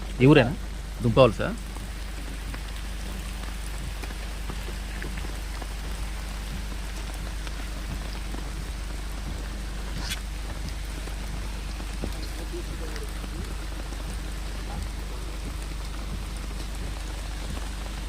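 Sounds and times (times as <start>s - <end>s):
raindrops ticking on surfaces: 0.0s - 18.0s
steady rain falling: 0.0s - 18.0s.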